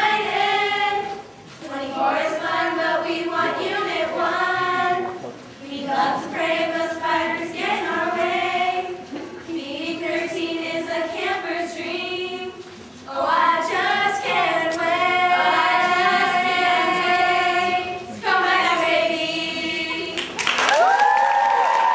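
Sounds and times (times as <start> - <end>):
women singing unaccompanied: 0.0 - 20.4.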